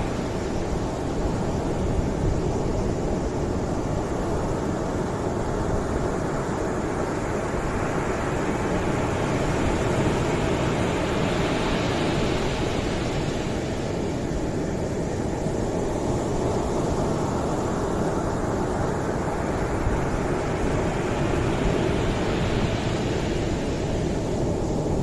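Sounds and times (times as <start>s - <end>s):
ocean surf breaking on a beach: 0.0s - 25.0s.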